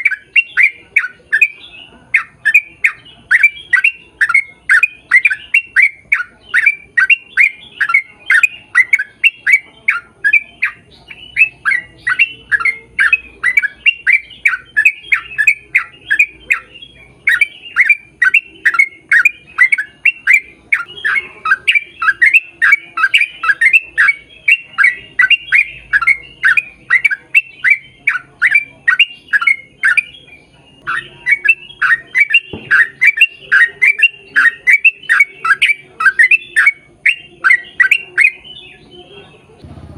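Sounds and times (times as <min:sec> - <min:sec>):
bird calling with descending notes: 0:00.0 - 0:39.9.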